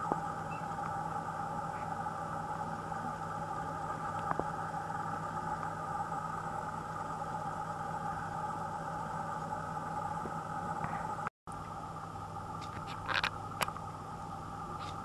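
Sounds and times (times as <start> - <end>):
mechanical hum with whine: 0.0 - 15.0.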